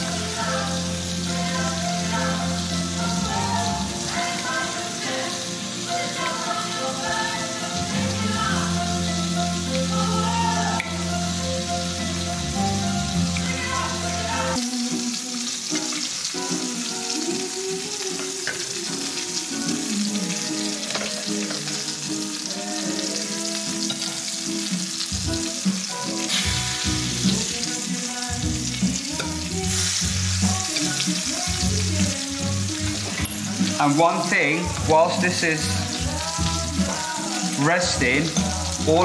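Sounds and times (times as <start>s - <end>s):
background music: 0.0s - 39.0s
steak sizzling in a pan: 0.0s - 39.0s.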